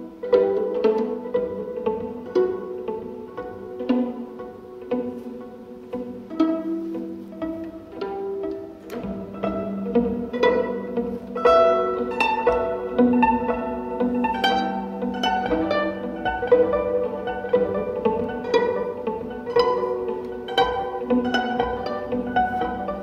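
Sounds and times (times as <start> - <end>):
bowed violin notes: 0.0 - 23.0
plucked violin notes: 0.0 - 23.0.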